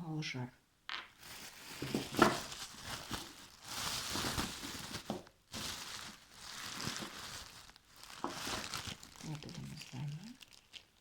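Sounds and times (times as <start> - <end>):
plastic packaging crinkling: 1.1 - 11.0.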